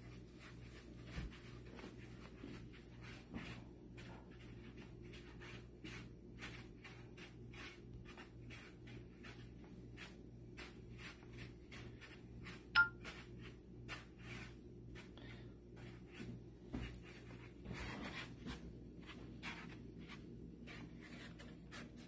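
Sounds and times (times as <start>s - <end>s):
hands rubbing dough on board: 0.0s - 22.0s.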